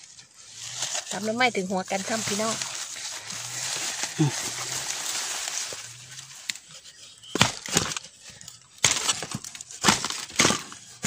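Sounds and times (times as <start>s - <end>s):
bamboo stems cracking and knocking: 0.0s - 11.0s
dry leaves rustling: 0.0s - 11.0s.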